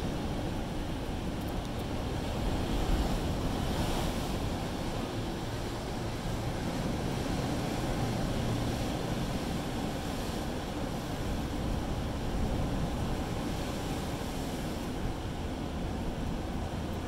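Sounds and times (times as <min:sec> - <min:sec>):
surf washing over rocks: 0:00.0 - 0:17.0
wind rumble on microphone: 0:00.0 - 0:17.0.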